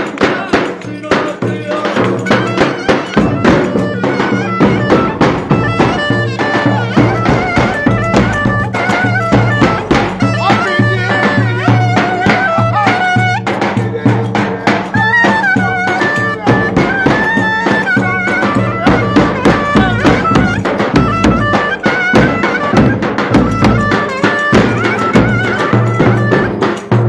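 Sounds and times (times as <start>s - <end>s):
reed wind instrument melody: 0.0s - 27.0s
steady drum beat: 0.0s - 27.0s.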